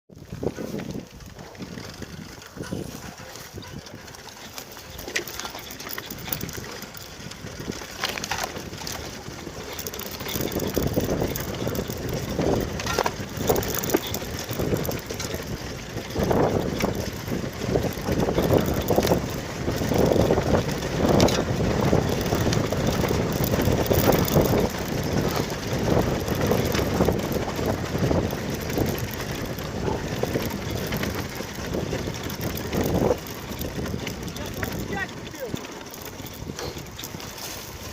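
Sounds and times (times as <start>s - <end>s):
motorcycle engine running: 0.1s - 37.9s
road noise: 0.1s - 37.9s
wind buffeting microphone: 0.1s - 37.9s.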